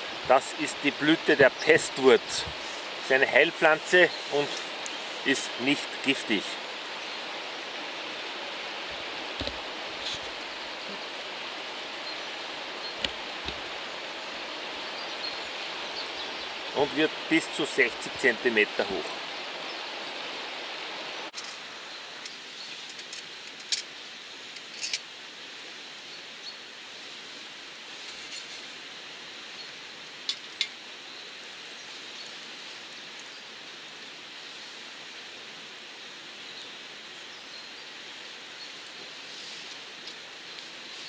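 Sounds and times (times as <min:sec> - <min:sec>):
stream water rushing: 0:00.0 - 0:41.0.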